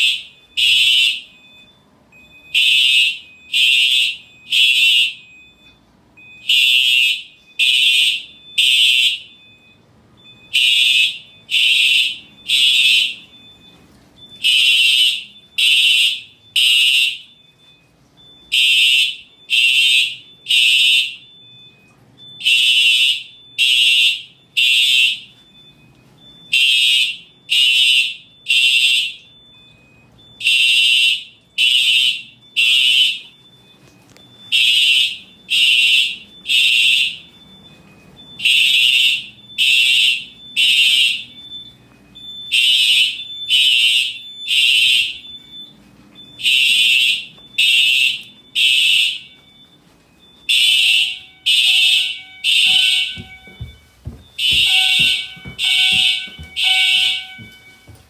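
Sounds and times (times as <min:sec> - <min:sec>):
fire alarm blasts: 0:00.0 - 0:58.0.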